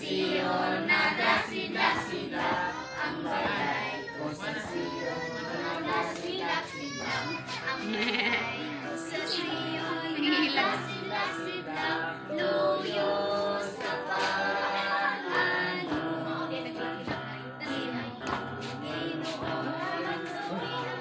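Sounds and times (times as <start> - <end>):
backing music: 0.0 - 21.0
children singing: 0.0 - 21.0.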